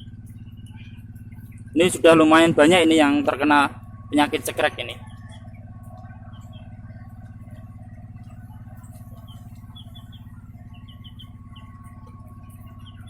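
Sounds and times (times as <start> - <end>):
low mechanical motor hum: 0.0 - 13.0.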